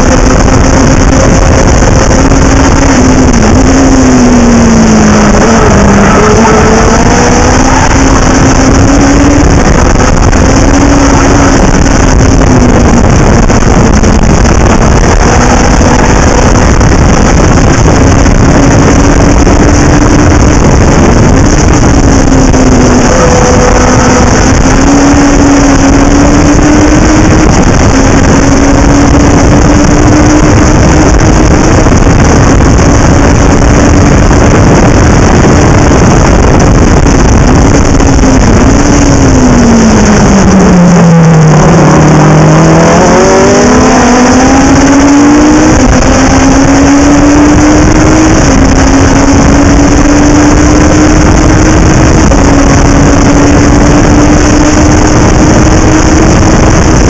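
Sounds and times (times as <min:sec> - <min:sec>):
race car engine at racing speed: 0:00.0 - 0:57.0
wind rush on microphone: 0:00.0 - 0:57.0.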